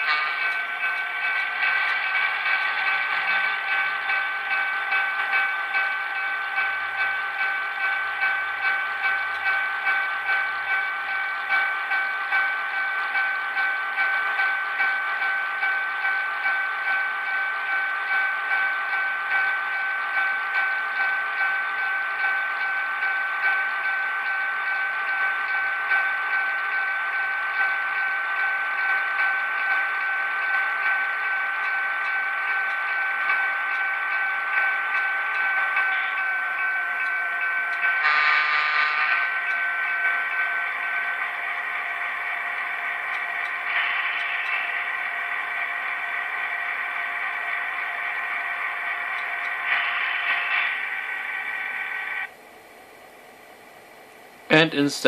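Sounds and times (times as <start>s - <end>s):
model train diesel engine sound: 0.0s - 55.0s.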